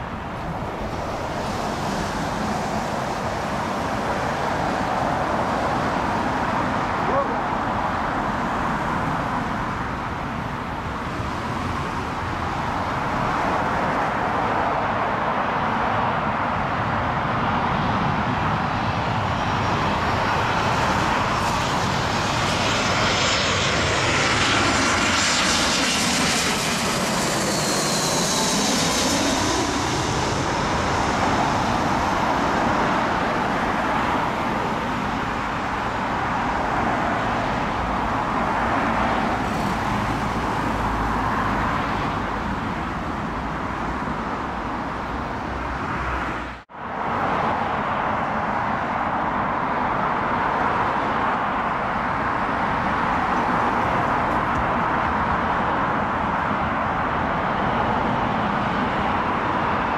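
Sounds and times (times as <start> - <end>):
airliner jet engines passing overhead: 0.0 - 59.9
distant jet engine noise: 0.0 - 59.9.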